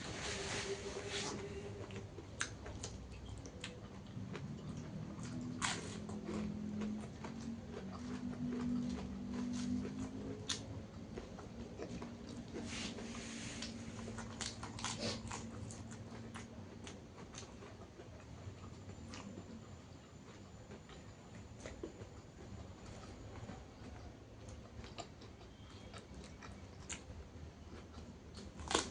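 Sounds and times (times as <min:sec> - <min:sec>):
chewing and crunching food: 0:00.0 - 0:28.9.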